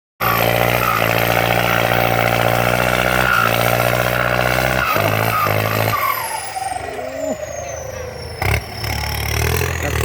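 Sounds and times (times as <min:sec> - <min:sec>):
tractor diesel engine running: 0:00.2 - 0:10.0.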